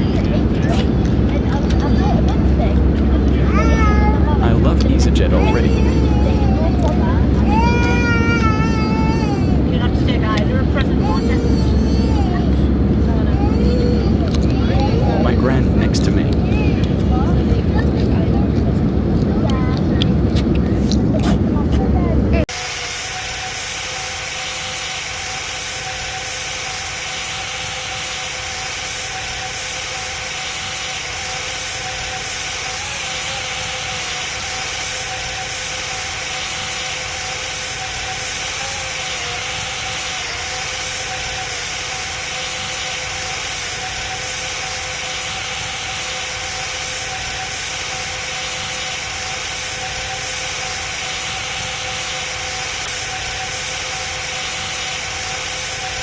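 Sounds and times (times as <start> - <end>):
airliner cabin noise: 0.0 - 56.0
steady hums: 0.0 - 56.0.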